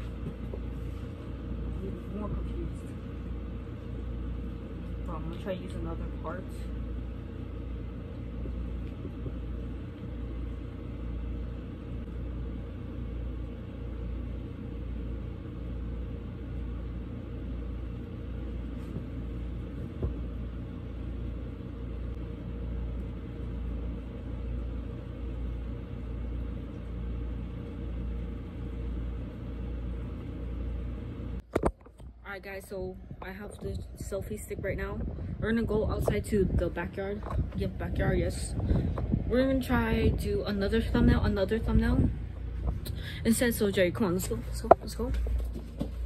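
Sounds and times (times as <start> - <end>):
low throbbing rumble and hum: 0.0 - 46.0.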